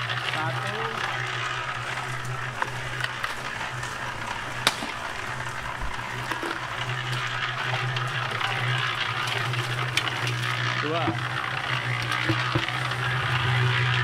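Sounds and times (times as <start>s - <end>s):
concrete mixer churning: 0.0s - 14.0s.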